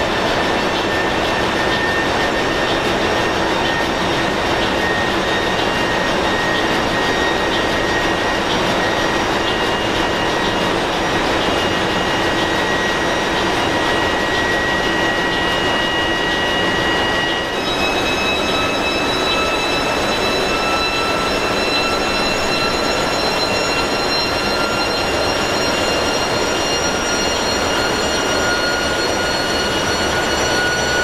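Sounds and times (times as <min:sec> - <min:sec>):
high whine: 0:00.0 - 0:31.0.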